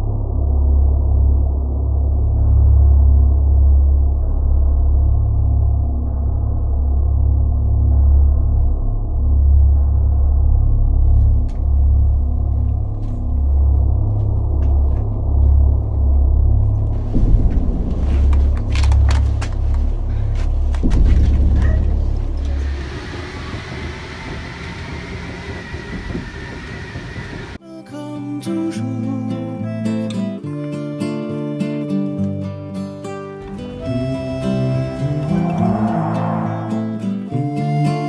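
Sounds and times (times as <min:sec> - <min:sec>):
deep droning bass music: 0:00.0 - 0:27.6, 0:29.0 - 0:38.0.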